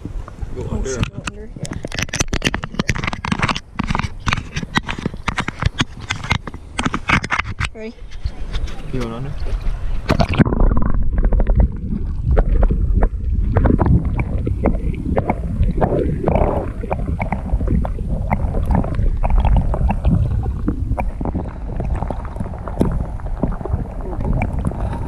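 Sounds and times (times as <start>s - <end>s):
small underwater clicks and knocks: 0.0s - 25.0s
underwater rumble of moving water: 0.0s - 25.0s.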